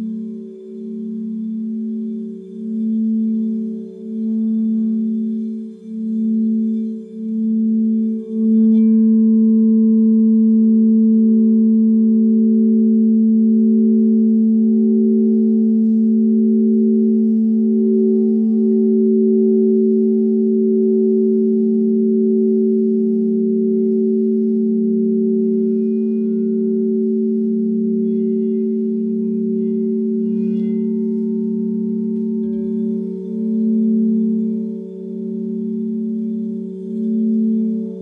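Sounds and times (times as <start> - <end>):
crystal singing bowls ringing: 0.0 - 38.0.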